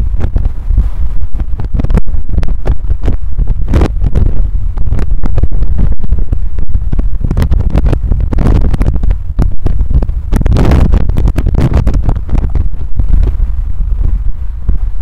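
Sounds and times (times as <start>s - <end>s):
slowed vehicle rumble: 0.0s - 15.0s.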